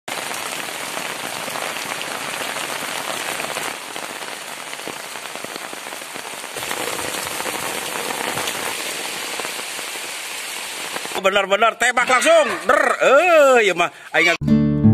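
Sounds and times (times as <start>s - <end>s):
heavy rain splashing: 0.1s - 14.3s.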